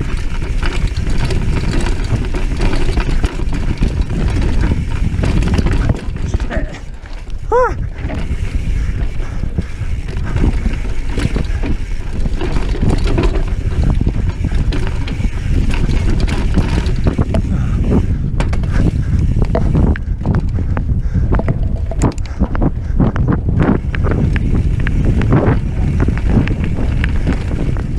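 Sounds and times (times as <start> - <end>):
tyres rumbling over dirt: 0.0 - 20.6, 23.3 - 27.9
bike rattling and knocking: 0.0 - 27.9
wind buffeting microphone: 0.0 - 27.9.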